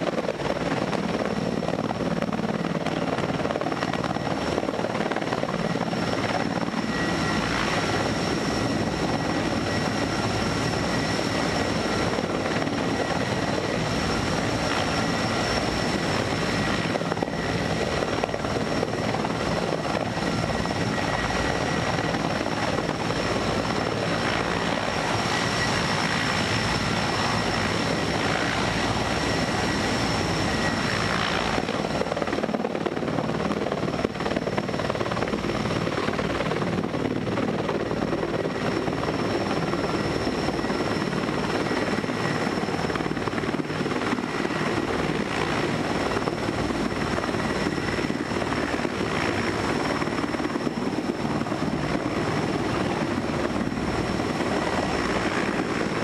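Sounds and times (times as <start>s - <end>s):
helicopter rotor noise: 0.0s - 56.0s.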